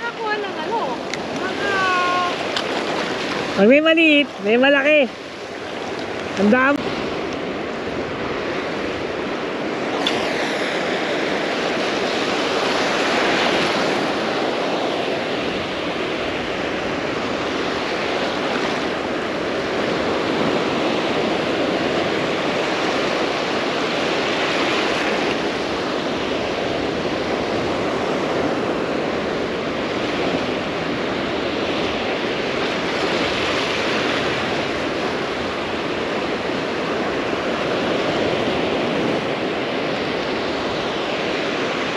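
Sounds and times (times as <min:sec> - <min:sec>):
ocean surf breaking on beach: 0:00.0 - 0:41.9.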